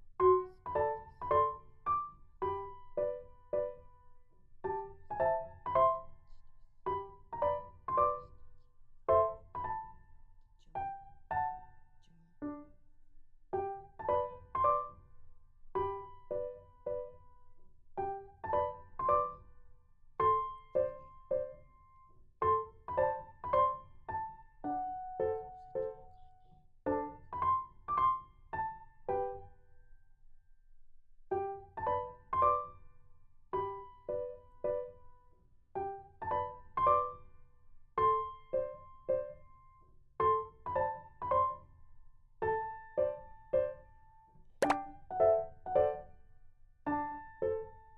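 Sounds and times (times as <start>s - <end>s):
gentle piano music: 0.0s - 30.0s, 31.3s - 37.4s, 38.0s - 47.9s.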